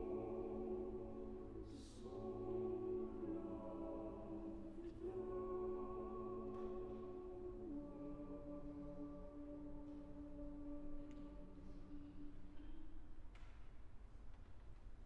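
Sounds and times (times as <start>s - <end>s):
choir singing unaccompanied: 0.0s - 12.8s.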